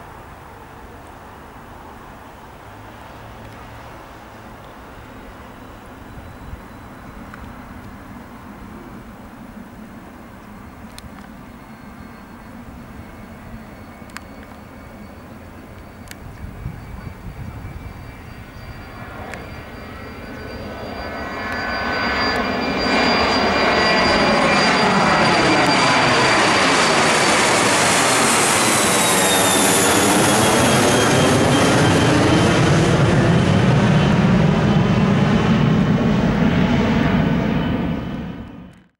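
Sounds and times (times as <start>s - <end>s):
jet engines roaring: 0.1s - 38.9s
high turbine whine: 1.6s - 38.9s.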